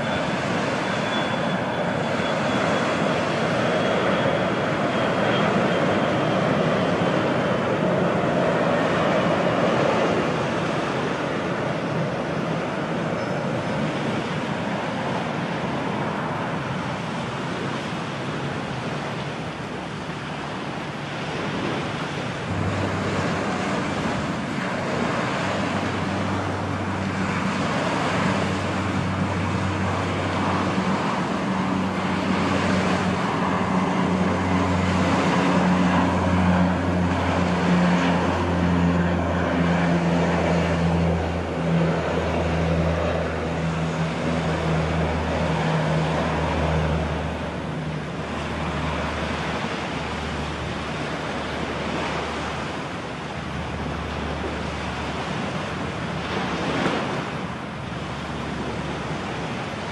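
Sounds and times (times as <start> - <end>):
turboprop engines droning: 0.0 - 59.9
wind and surf hiss: 0.0 - 59.9.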